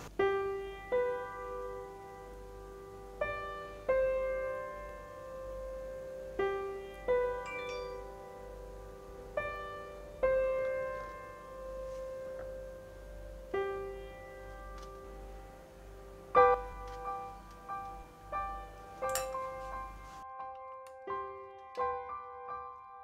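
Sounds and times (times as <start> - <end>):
gentle solo piano: 0.0 - 23.0.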